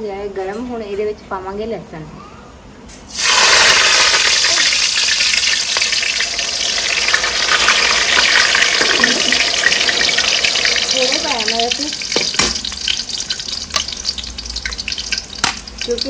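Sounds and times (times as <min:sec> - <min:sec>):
garlic sizzling in hot oil: 0:03.1 - 0:16.0.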